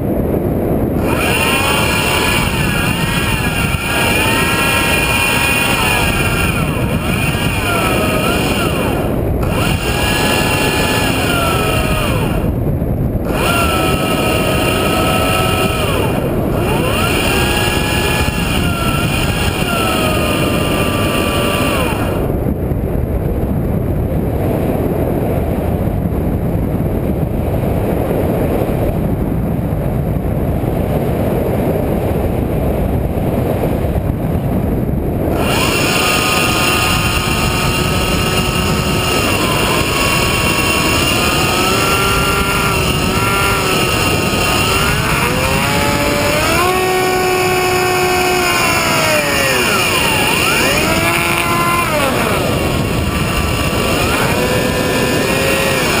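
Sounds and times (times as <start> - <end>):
propeller motor whine: 0.0 - 29.2, 29.8 - 56.0
wind rushing: 0.0 - 56.0.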